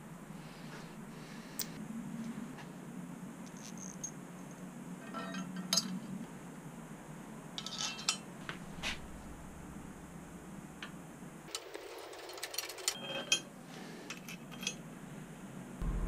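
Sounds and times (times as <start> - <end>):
low steady hum: 0.0 - 11.6, 12.9 - 16.0.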